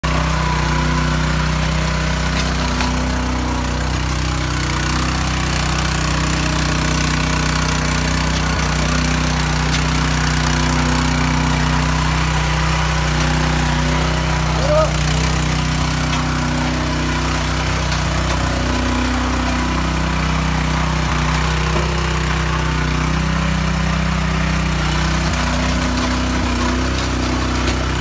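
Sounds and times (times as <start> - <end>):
tiller engine running: 0.0 - 28.0
tines churning wet cement mix: 0.0 - 28.0.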